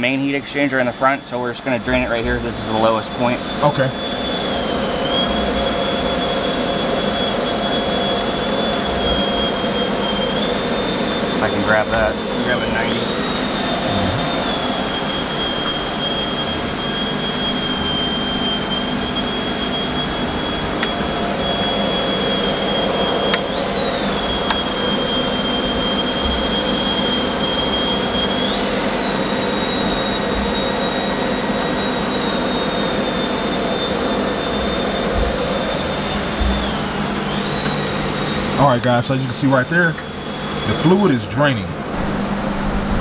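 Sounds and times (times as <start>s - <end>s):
high machine whine: 0.0s - 43.0s
machine humming: 0.0s - 43.0s.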